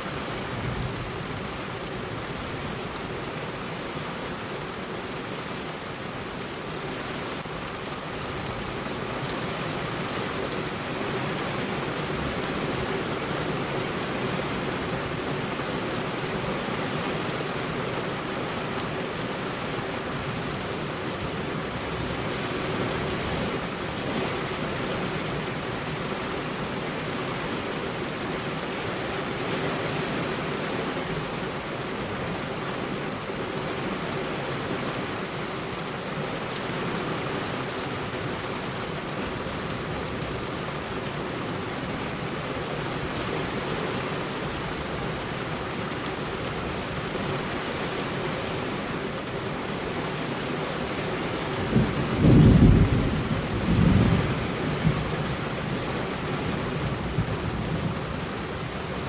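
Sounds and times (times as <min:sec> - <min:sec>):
heavy rain on a road: 0:00.0 - 0:59.0.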